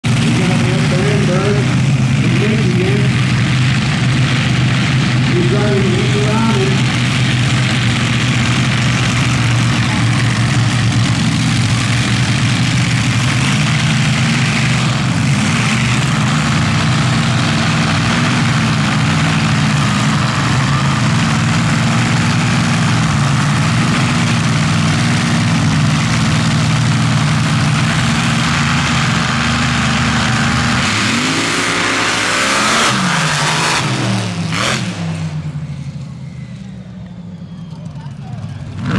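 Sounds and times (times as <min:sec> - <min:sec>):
race car engine idling and revving: 0:00.0 - 0:38.9.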